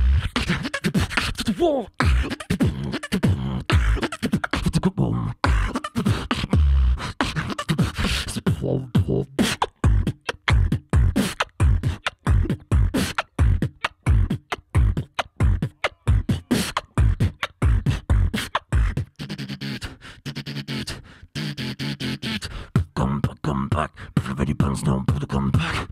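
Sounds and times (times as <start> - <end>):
person beatboxing: 0.0 - 25.9.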